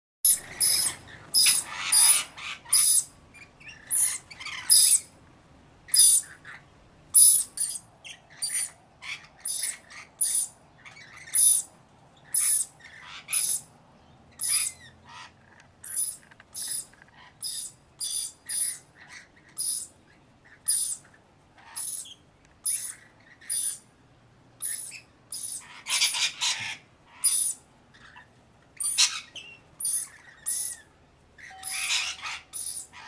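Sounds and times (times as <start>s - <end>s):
parrots calling: 0.3s - 5.2s, 5.9s - 6.6s, 7.2s - 13.7s, 14.3s - 23.9s, 24.6s - 33.0s.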